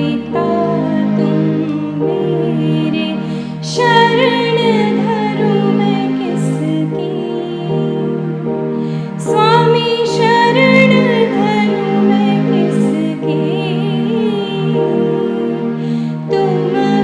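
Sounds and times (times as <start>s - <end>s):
vibrato melody: 0.0s - 17.0s.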